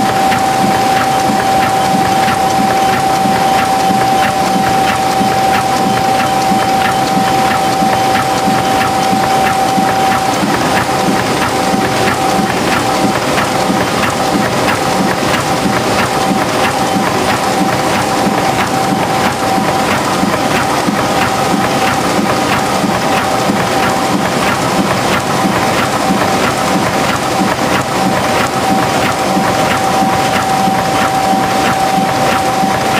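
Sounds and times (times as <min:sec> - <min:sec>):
machine clattering: 0:00.0 - 0:32.9
machine whine: 0:00.0 - 0:32.9.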